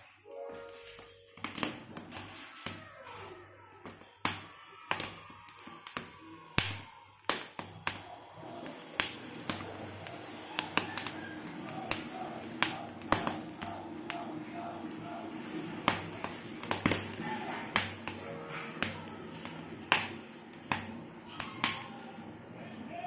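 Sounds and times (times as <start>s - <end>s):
corn kernels popping in flame: 0.0s - 22.5s.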